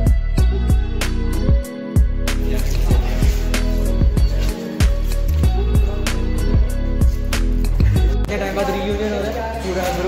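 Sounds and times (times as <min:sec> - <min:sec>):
music with heavy bass and drums: 0:00.0 - 0:08.3.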